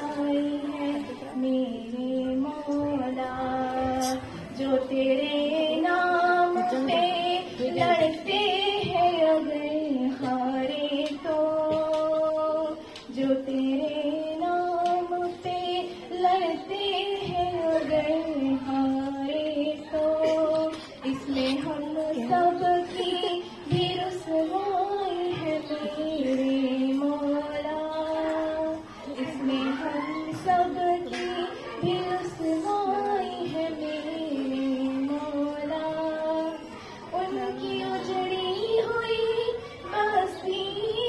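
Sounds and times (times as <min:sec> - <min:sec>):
girl singing: 0:00.0 - 0:41.0.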